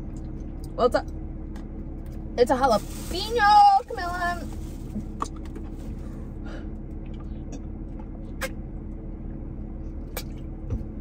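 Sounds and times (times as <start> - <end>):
car idling hum: 0.0 - 11.0.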